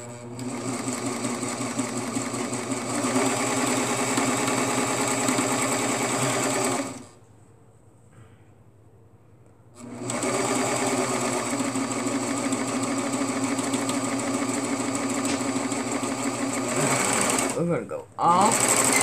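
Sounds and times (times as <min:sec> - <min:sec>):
overlock sewing machine running: 0:00.0 - 0:07.1, 0:09.8 - 0:17.6, 0:18.3 - 0:19.0.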